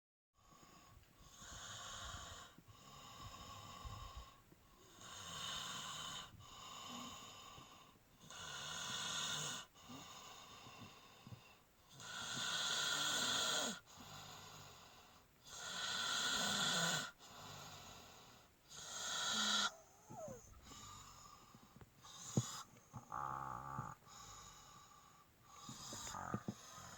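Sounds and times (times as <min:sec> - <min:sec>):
snoring: 0:00.4 - 0:26.9
soft breaths: 0:00.4 - 0:26.9.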